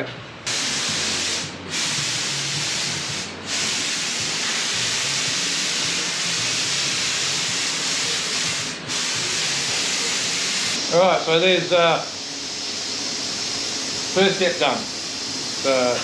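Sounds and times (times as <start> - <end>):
paint spray gun hissing: 0.5 - 16.0.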